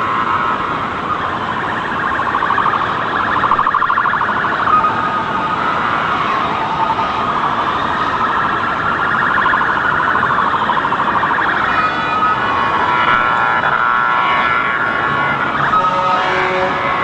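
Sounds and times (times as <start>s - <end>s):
warbling emergency sirens: 0.0s - 17.0s.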